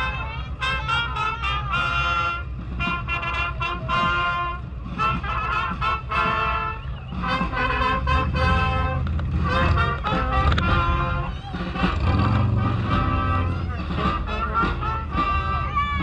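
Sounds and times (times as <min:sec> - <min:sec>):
brass band playing: 0:00.0 - 0:16.0
steady low rumble: 0:00.0 - 0:16.0.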